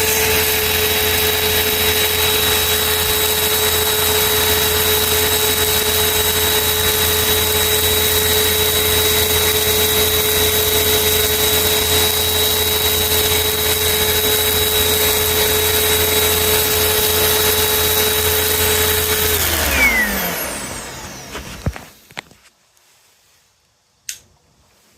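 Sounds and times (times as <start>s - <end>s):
vacuum motor spinning down: 0.0s - 22.2s
vacuum cleaner whining: 0.0s - 23.0s.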